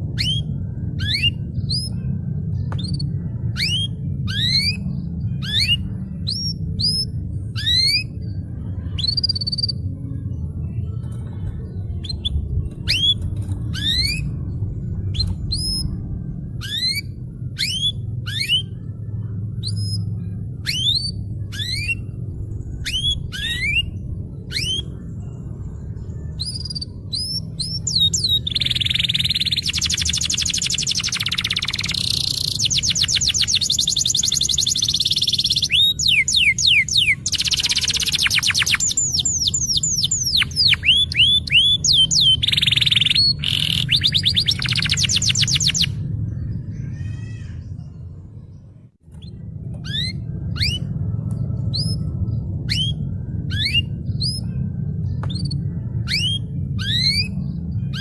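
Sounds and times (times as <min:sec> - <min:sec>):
canary singing: 0:00.0 - 0:10.0, 0:11.7 - 0:48.0, 0:49.1 - 0:58.0.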